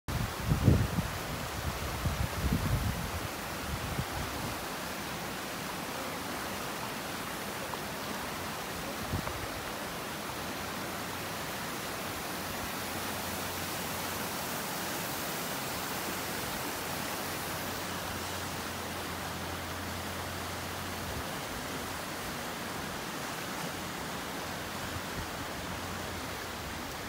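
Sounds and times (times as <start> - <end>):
river rushing over stones: 0.1 - 27.0.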